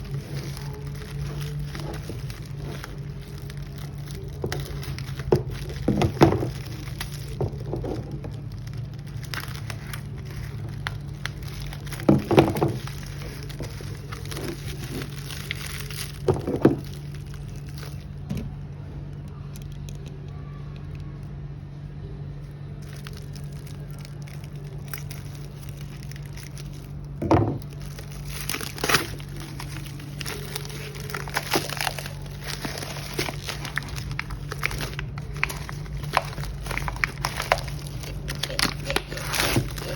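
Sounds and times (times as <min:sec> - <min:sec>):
package crackling and crinkling: 0:00.0 - 0:21.1, 0:22.5 - 0:39.9
steady low hum: 0:00.0 - 0:39.9.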